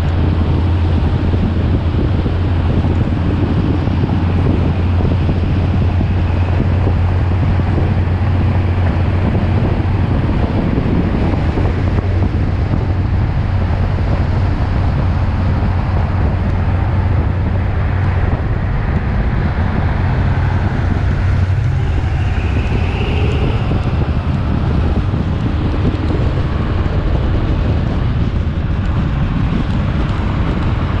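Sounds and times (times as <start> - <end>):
car engine droning: 0.0 - 31.0
road noise: 0.0 - 31.0
wind buffeting microphone: 0.0 - 31.0.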